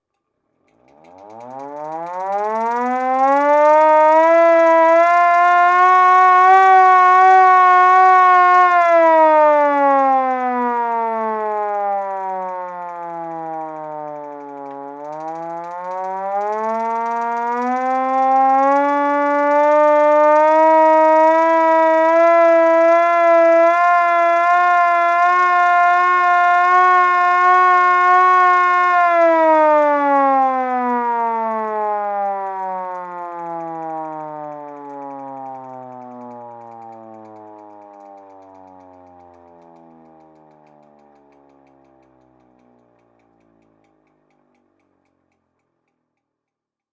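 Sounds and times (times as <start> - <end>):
hand-cranked siren wailing: 0.7 - 44.8.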